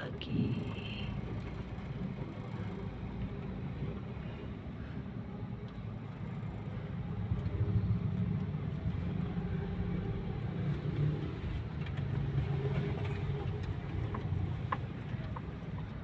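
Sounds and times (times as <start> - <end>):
vehicle engine with road noise: 0.0 - 16.0.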